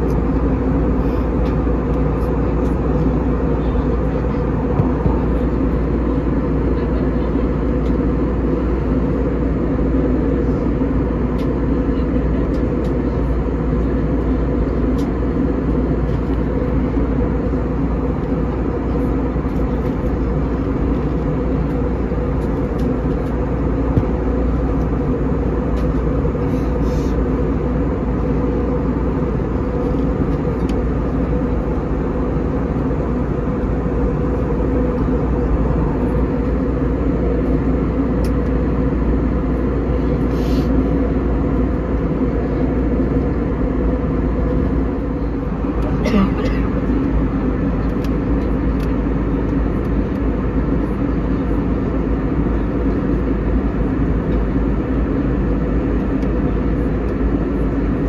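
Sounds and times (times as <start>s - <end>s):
constant low hum: 0.0s - 58.0s
jet engine and airflow noise: 0.0s - 58.0s.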